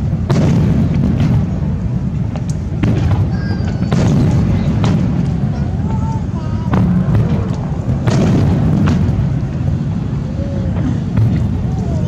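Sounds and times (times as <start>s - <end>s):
fireworks shells booming: 0.0s - 12.0s
low rumble of fireworks: 0.0s - 12.0s.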